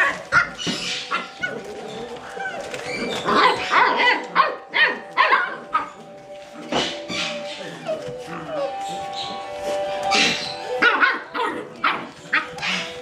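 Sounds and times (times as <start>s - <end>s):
puppies barking and yipping: 0.0s - 13.0s.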